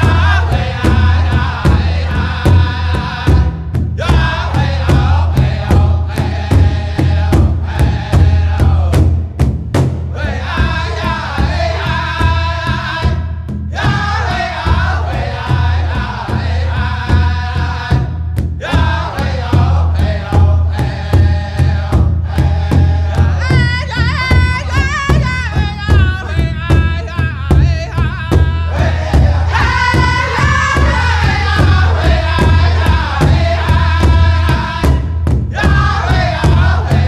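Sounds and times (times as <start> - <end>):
steady drum beat: 0.0 - 37.0.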